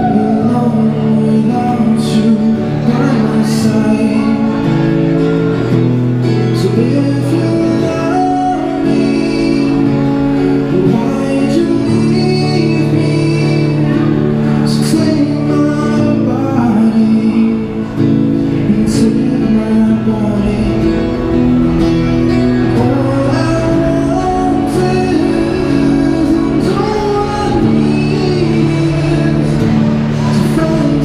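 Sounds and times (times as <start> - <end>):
acoustic guitar: 0.0 - 31.0
person singing folk song: 0.0 - 31.0.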